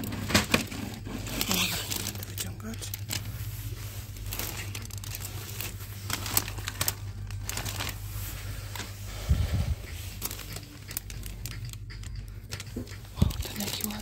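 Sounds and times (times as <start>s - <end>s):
plastic sleeves crinkling: 0.0s - 14.0s
steady low hum: 0.0s - 14.0s.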